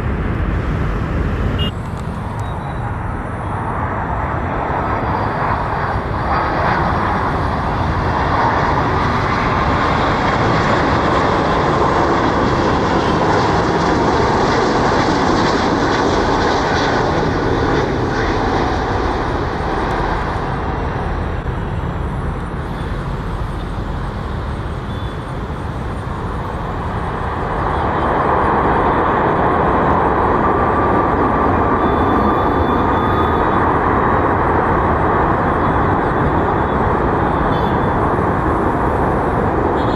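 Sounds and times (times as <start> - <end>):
jet aircraft engines running: 0.0 - 39.9.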